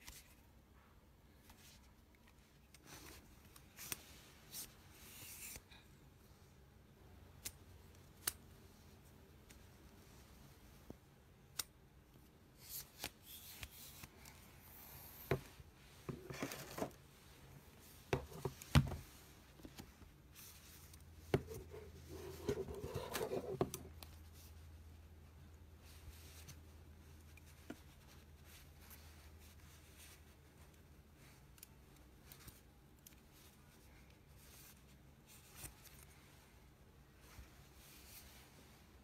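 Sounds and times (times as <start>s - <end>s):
rustling of cloth and papers: 0.0s - 6.4s, 12.1s - 25.1s, 25.8s - 39.0s.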